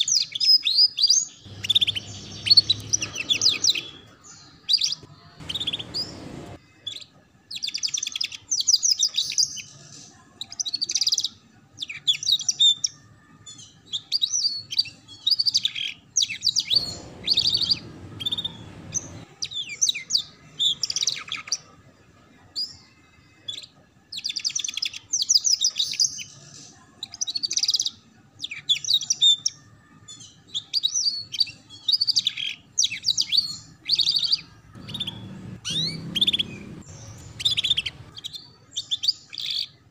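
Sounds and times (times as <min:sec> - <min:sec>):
canary singing: 0:00.0 - 0:21.7, 0:27.0 - 0:39.8.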